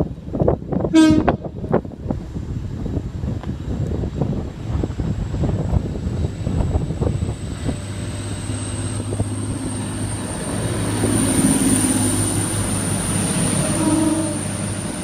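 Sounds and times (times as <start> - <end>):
train humming: 0.0 - 15.0
wind buffeting microphone: 0.0 - 15.0.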